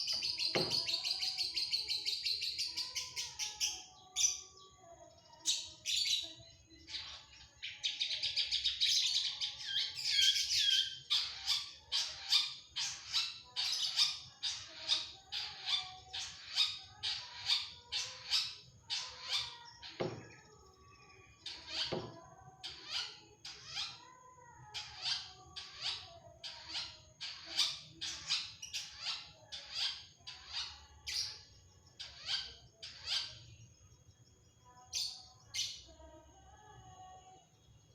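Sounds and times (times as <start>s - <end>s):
shrike singing chattering song: 0.0s - 4.6s, 5.2s - 37.2s.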